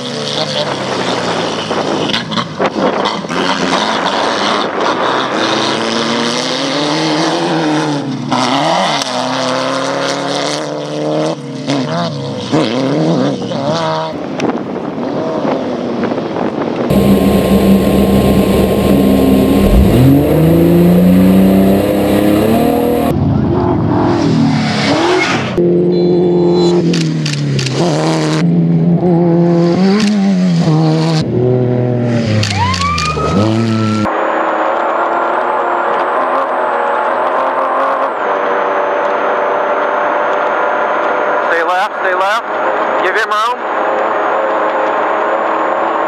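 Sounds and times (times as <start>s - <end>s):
racing buggy engines revving: 0.0s - 46.0s.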